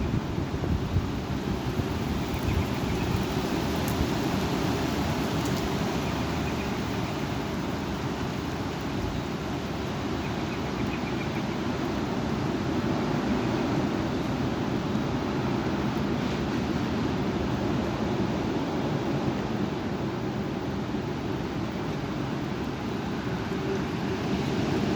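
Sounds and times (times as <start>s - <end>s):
storm wind with rain: 0.0s - 24.9s.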